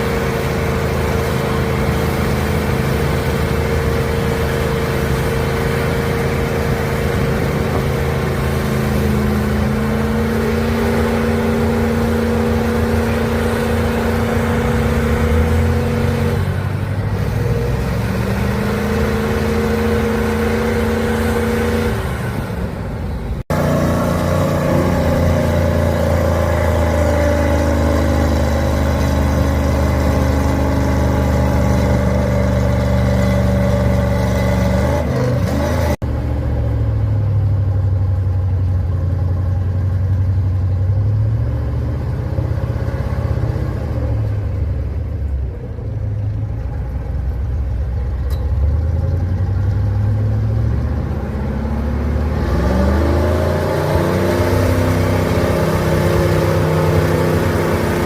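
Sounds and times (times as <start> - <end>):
truck engine working under load: 0.0 - 58.0.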